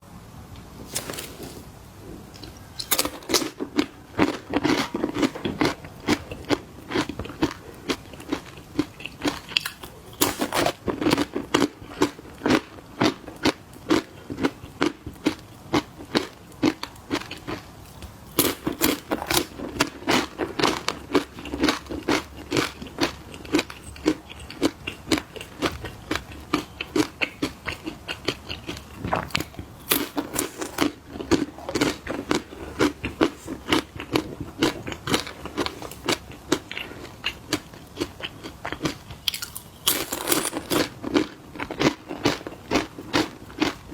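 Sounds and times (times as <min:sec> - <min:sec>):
crunchy snacks being chewed: 0:02.4 - 0:43.9.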